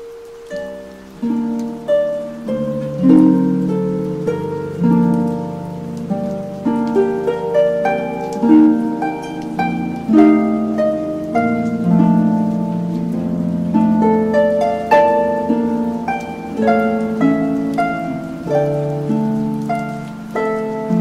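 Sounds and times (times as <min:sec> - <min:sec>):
harp melody: 0:00.0 - 0:21.0.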